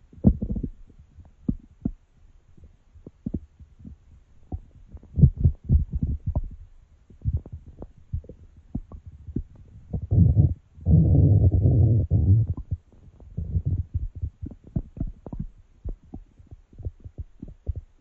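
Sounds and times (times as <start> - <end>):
stomach growling: 0.2 - 0.8, 3.2 - 6.6, 7.2 - 17.9.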